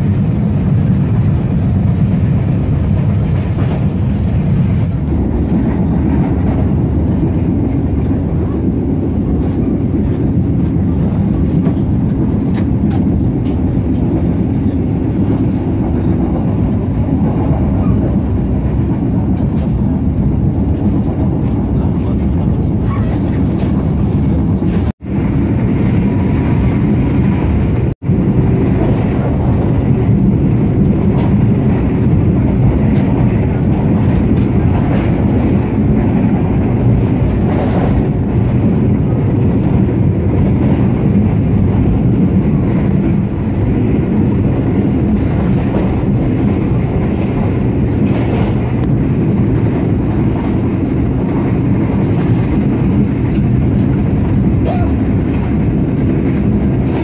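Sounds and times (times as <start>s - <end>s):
train coach rumbling on rails: 0.0s - 57.0s.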